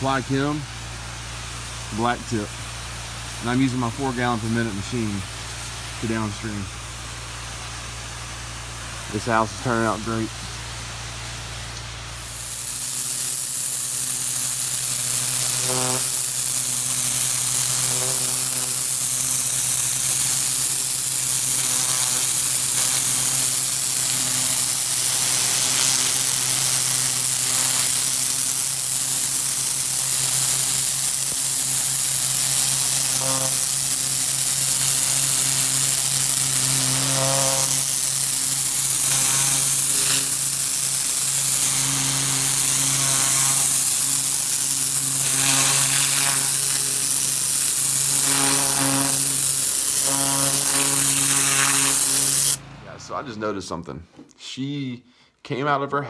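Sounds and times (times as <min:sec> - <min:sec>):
pressure washer spray hissing: 0:00.0 - 0:52.7.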